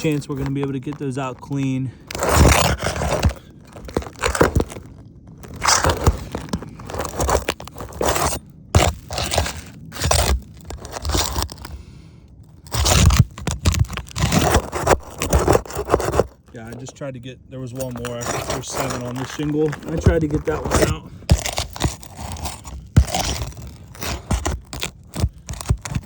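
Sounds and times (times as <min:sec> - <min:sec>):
crunching: 0:00.0 - 0:11.9, 0:12.5 - 0:26.0
pry bar scraping under shingle: 0:00.0 - 0:11.9, 0:12.6 - 0:26.0.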